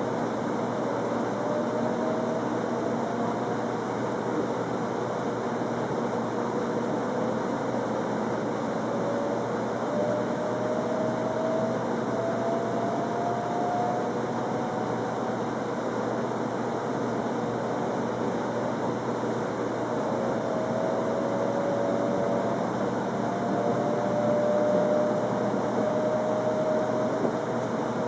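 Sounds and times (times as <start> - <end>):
traction motor whine: 0.0 - 28.0
train running noise: 0.0 - 28.0.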